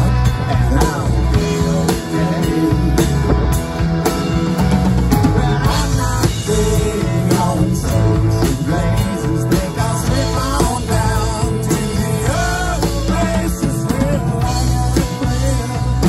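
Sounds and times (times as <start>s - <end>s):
drum kit beat: 0.0s - 16.0s
live rock band playing: 0.0s - 16.0s.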